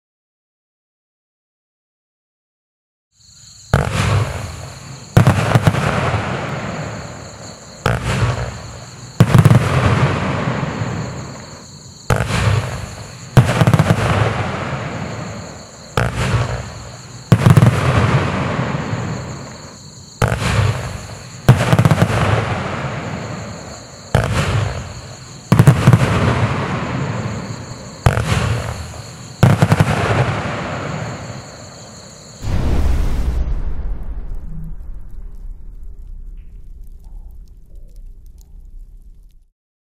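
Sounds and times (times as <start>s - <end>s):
fireworks stars bursting: 3.7s - 31.3s, 32.4s - 39.5s
fireworks bangs: 3.7s - 31.6s, 32.4s - 39.5s.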